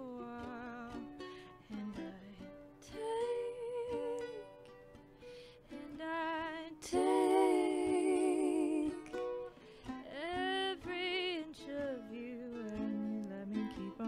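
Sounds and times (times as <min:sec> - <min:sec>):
woman singing harmony: 0:00.0 - 0:04.7, 0:05.7 - 0:14.0
ukulele playing: 0:00.0 - 0:14.0.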